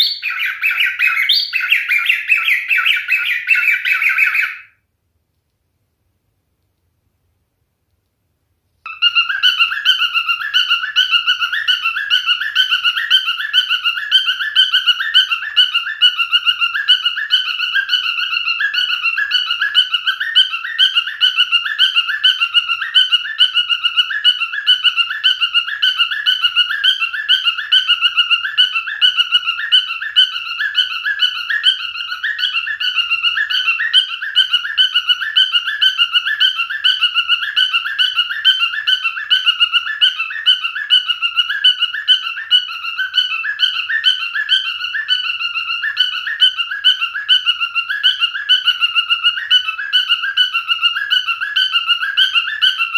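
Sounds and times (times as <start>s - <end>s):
cockatiel whistled chirps: 0.0s - 4.7s, 8.9s - 52.9s.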